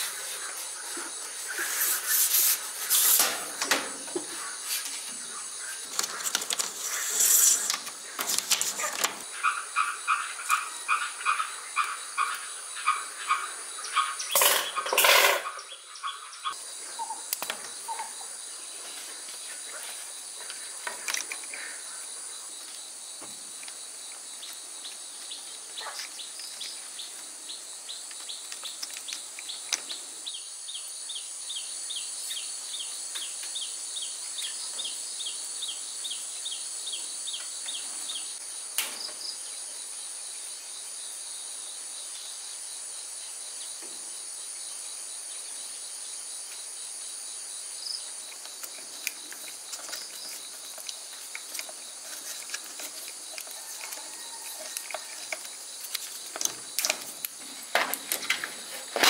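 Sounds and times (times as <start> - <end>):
crickets and insects chirping: 0.0 - 59.0.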